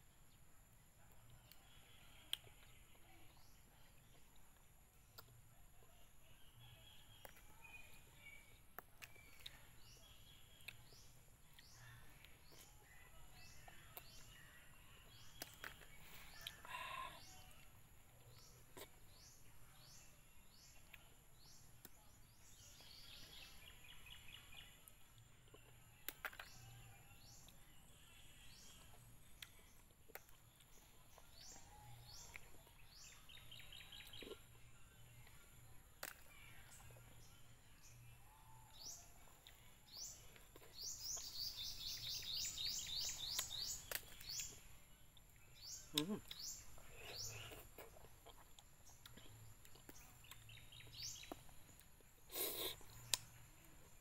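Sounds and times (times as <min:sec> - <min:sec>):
birds chirping: 0:06.4 - 0:54.0.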